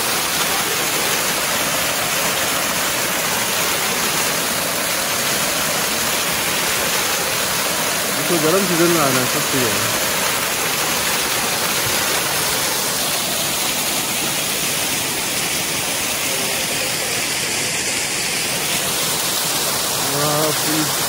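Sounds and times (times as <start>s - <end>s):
waterfall pouring over rocks: 0.0s - 21.0s.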